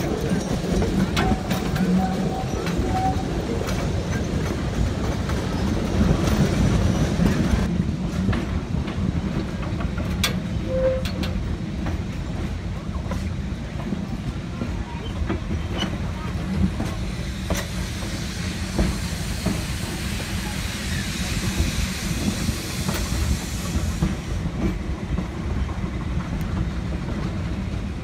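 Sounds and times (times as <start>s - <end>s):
train cars rumbling on track: 0.0s - 28.0s
wheels clicking on rail joints: 0.0s - 28.0s.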